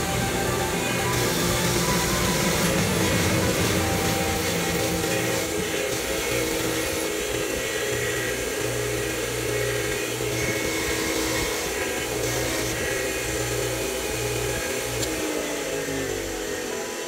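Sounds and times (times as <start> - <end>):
bench grinder scouring metal: 0.0 - 17.0.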